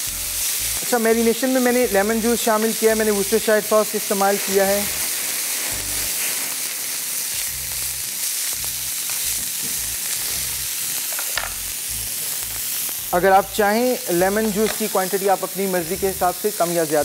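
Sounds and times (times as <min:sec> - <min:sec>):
steak sizzling: 0:00.0 - 0:17.0.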